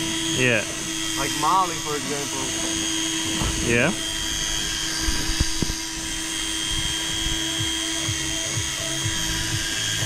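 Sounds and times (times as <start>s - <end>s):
electric fishing reel motor whining: 0.0s - 10.0s.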